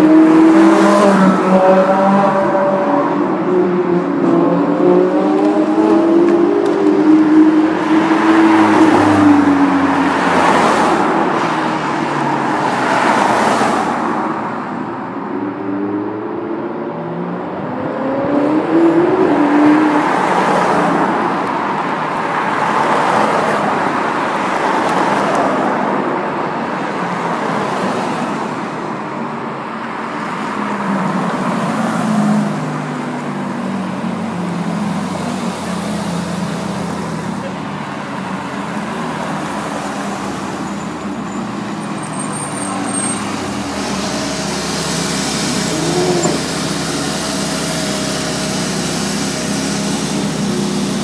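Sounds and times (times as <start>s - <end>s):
sports cars driving past: 0.0s - 51.0s.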